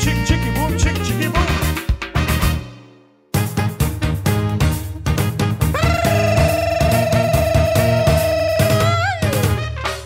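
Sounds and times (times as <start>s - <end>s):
upbeat music with vibrato melody: 0.0s - 10.0s.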